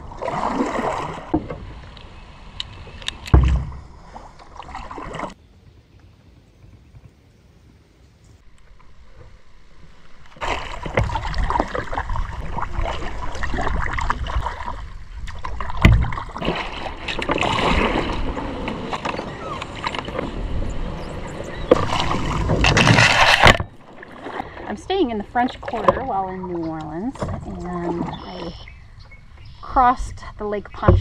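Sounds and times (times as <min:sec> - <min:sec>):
kayak pushing through reeds: 0:00.0 - 0:05.4, 0:08.7 - 0:29.9
paddle strokes with water sloshing: 0:00.0 - 0:05.4, 0:08.6 - 0:29.9.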